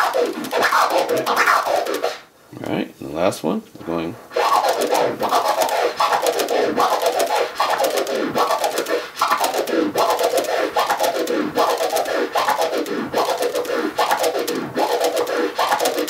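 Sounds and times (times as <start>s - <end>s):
turntable scratching: 0.0s - 2.3s, 4.2s - 16.0s.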